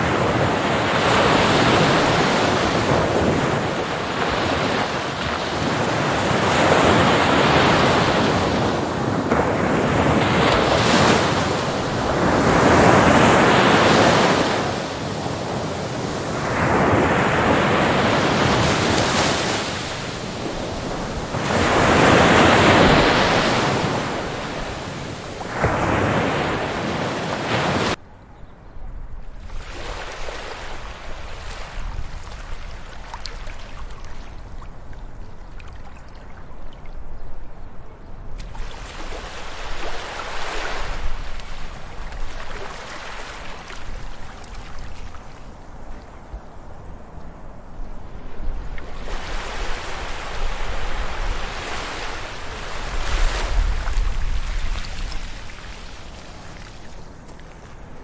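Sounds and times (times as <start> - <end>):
ocean waves breaking on beach: 0.0 - 28.0, 29.4 - 36.4, 38.4 - 58.0.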